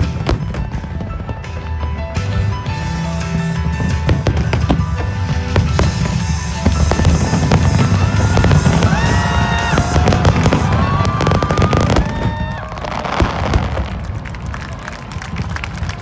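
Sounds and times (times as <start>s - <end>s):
fireworks crackling and booming: 0.0s - 16.0s
music: 0.0s - 16.0s.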